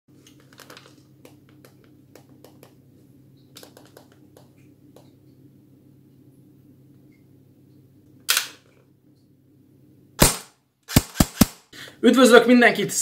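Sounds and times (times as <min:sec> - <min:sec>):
steady low hum: 0:01.0 - 0:12.0.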